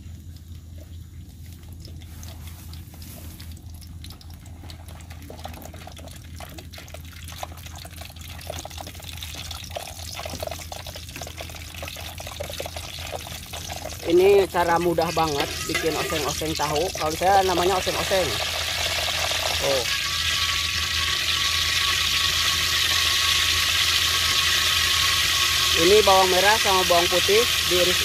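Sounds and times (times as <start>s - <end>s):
oil hissing and crackling: 0.0s - 28.0s.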